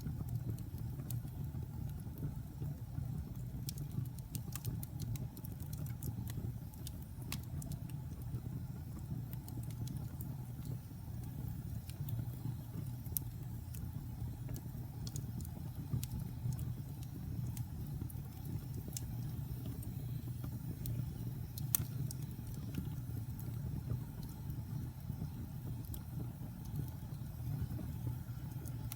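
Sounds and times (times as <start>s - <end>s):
fire flames rumbling: 0.0s - 28.9s
logs crackling and popping: 0.1s - 28.9s.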